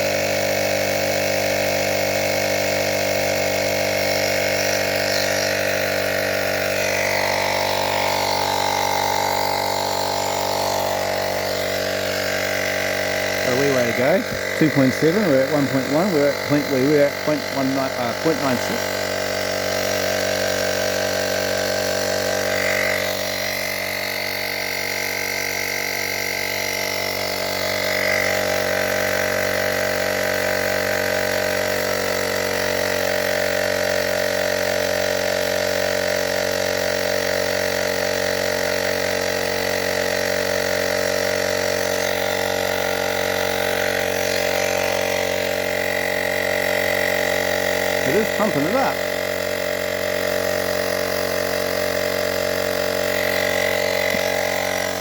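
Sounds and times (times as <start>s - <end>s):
tyre inflator compressor whining: 0.0s - 55.0s.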